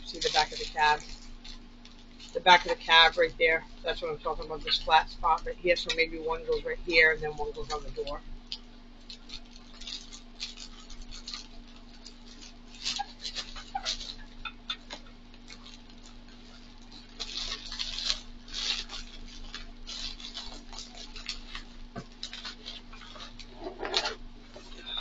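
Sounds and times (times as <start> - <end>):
bubble wrap crinkling: 0.0 - 25.0
faint steady hum: 0.0 - 25.0.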